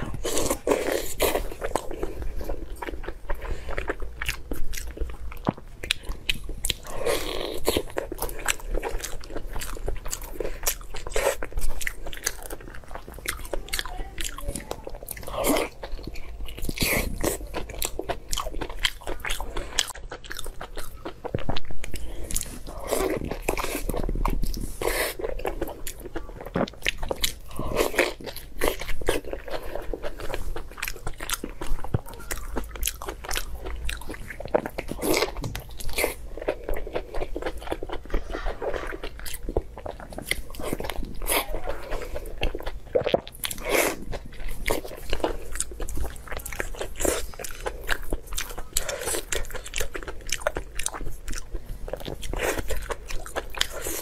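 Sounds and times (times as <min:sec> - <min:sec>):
chewing sausages: 0:00.0 - 0:54.0.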